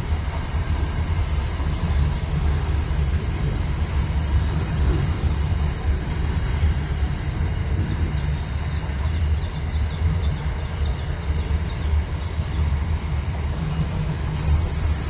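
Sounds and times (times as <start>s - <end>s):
train passing rumble: 0.0s - 15.0s.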